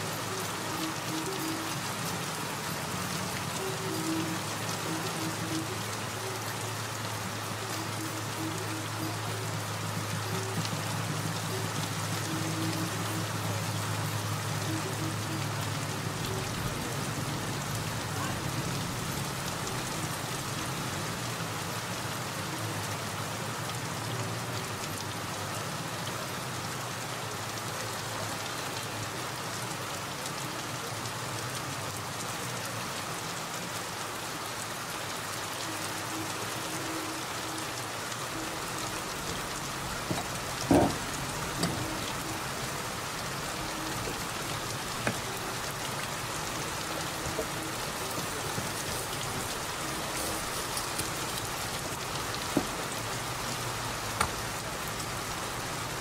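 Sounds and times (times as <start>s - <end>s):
rain falling on street: 0.0s - 56.0s.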